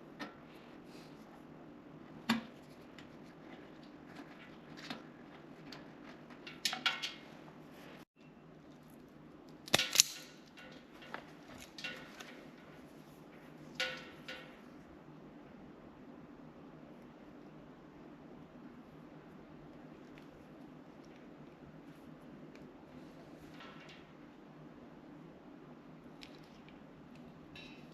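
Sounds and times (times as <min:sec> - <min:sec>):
faint steady hum: 0:00.0 - 0:27.9.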